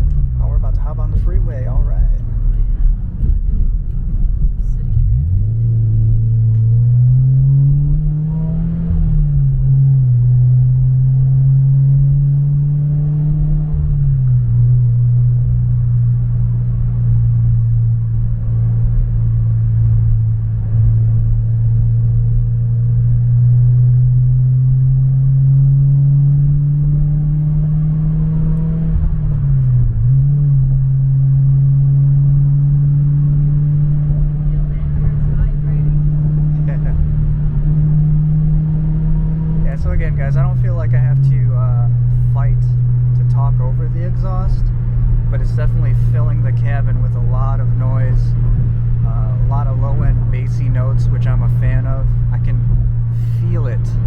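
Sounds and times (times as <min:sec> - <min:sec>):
deep car exhaust drone: 0:00.0 - 0:54.0.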